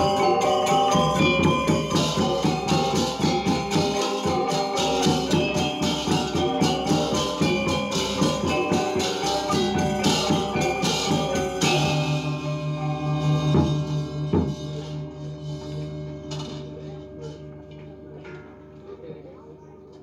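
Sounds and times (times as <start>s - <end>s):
gamelan ensemble playing: 0.0s - 19.3s
steady low tone: 0.0s - 20.0s.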